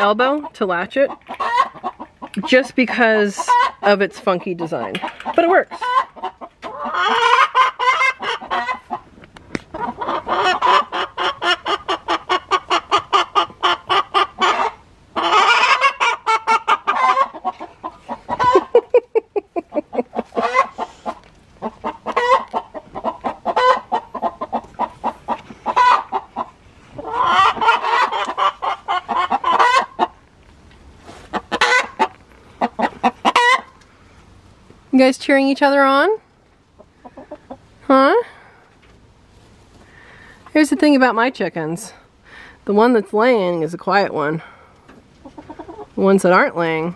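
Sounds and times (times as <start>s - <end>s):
hens cackling: 0.0s - 34.4s, 35.9s - 38.2s, 44.8s - 46.4s.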